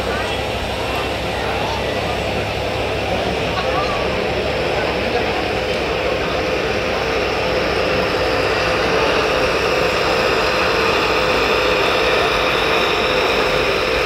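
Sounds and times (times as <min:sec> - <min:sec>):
model tractor engine drone: 0:00.0 - 0:14.0.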